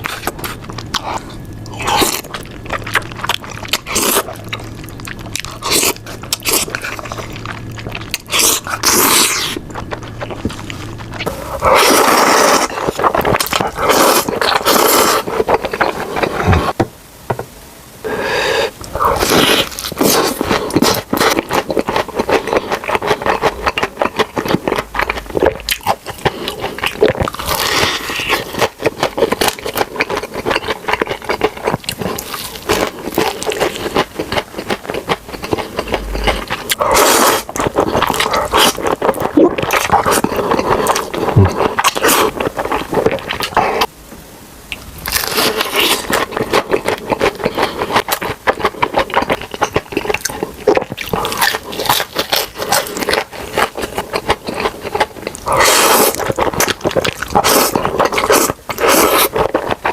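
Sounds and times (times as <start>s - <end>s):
crunchy chewing: 0.0s - 16.8s, 18.8s - 43.9s, 44.7s - 59.9s.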